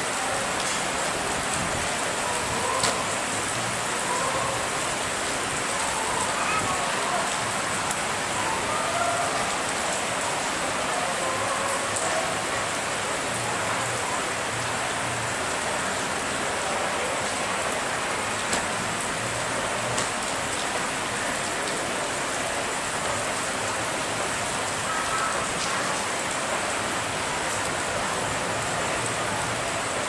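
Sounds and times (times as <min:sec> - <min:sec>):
rain on wet pavement: 0:00.0 - 0:30.0.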